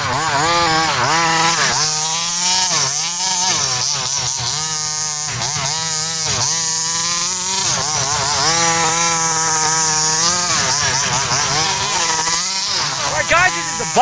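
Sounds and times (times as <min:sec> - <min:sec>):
small two-stroke engine revving: 0:00.0 - 0:14.0.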